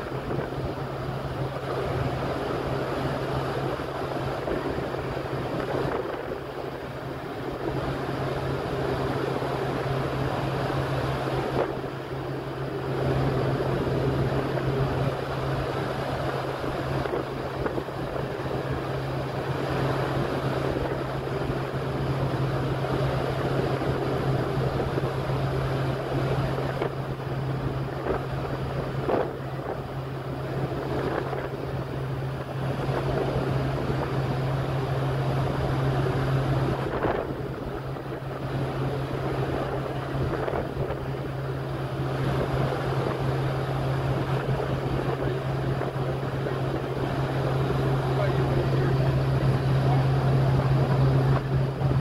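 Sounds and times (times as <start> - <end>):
low ship hum: 0.0 - 52.0
ship wake rushing and churning: 0.0 - 52.0
wind buffeting microphone: 0.0 - 52.0.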